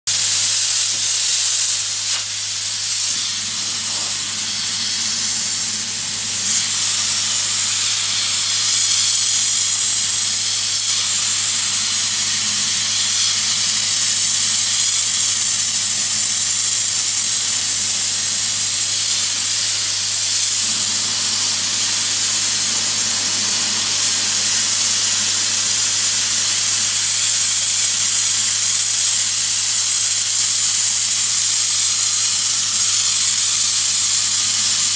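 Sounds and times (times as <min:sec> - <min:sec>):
bead blaster nozzle hissing: 0:00.1 - 0:34.9.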